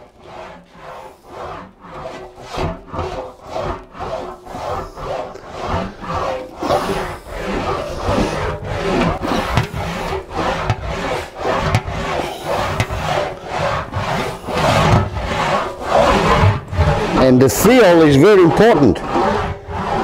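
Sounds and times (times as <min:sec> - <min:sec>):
sheet metal rasping on rolling wheel: 0:00.0 - 0:20.0.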